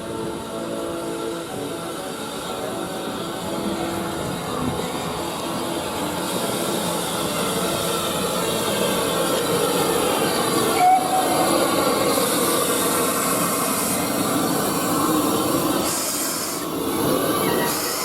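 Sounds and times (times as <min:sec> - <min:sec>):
train wheels rolling: 0:00.0 - 0:18.0.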